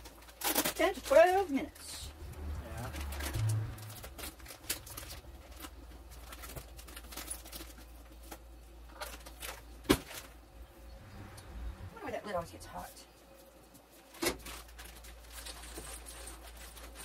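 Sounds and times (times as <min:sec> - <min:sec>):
plastic bag crinkling: 0:00.0 - 0:10.5, 0:13.8 - 0:17.0
low steady hum: 0:00.0 - 0:17.0.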